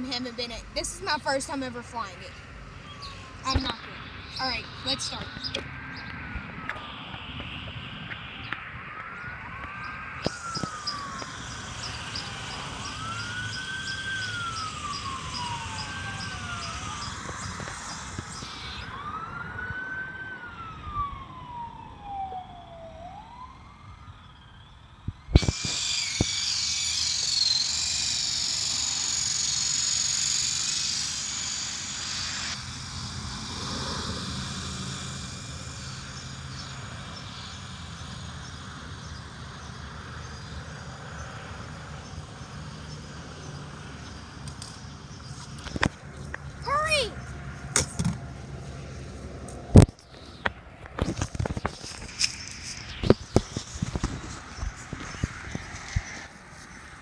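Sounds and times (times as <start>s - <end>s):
wailing siren: 0.0s - 44.4s, 50.9s - 57.0s
toy helicopter motor whine: 0.0s - 48.1s, 50.9s - 57.0s.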